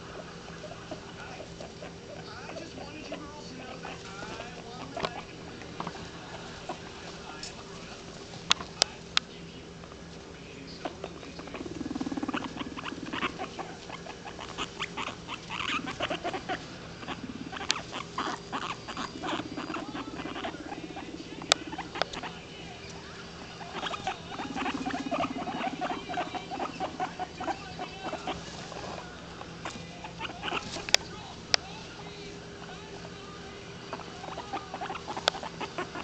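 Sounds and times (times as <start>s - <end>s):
guinea pig squeaks and chirps: 0.0s - 9.0s, 10.8s - 36.0s
guinea pig purring: 0.0s - 36.0s.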